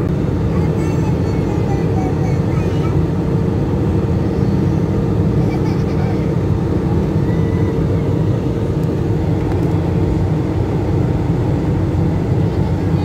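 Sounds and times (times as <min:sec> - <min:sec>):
airliner engine rumble: 0:00.0 - 0:13.0
faint constant hum: 0:00.0 - 0:13.0.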